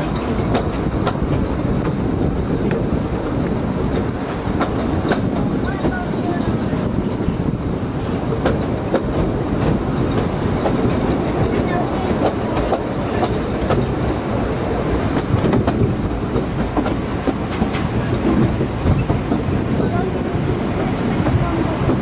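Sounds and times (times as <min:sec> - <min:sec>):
clickety-clack of train wheels: 0:00.0 - 0:22.0
train rumble: 0:00.0 - 0:22.0.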